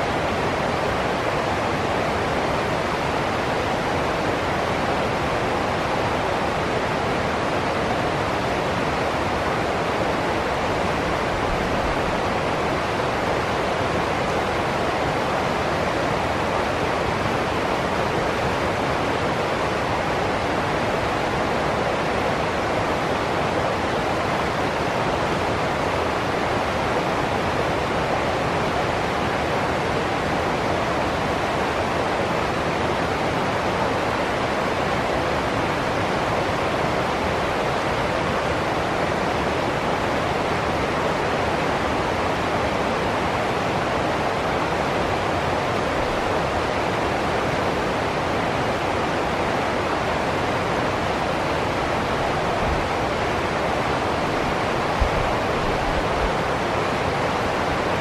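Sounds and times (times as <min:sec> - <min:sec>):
stream rushing over rapids: 0:00.0 - 0:58.0.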